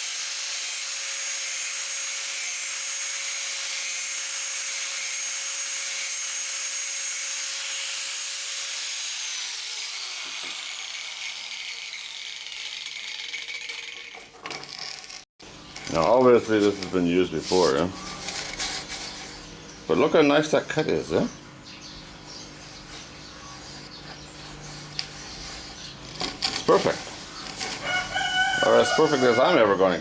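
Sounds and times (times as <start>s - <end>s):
angle grinder cutting pipe: 0.0s - 19.9s, 23.5s - 29.7s.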